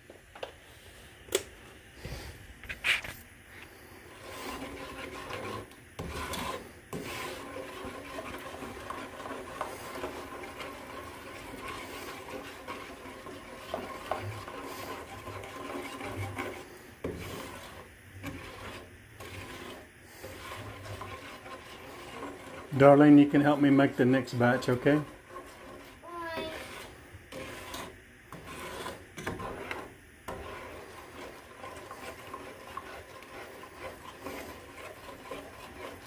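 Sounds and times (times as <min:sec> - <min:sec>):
spatula scraping a saucepan: 0:03.7 - 0:36.0.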